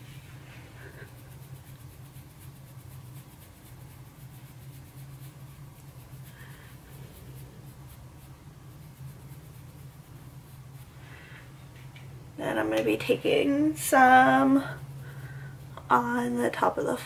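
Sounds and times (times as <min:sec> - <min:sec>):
brush scratching on skin: 0:00.0 - 0:11.2, 0:12.6 - 0:17.0
steady low hum: 0:00.0 - 0:17.0.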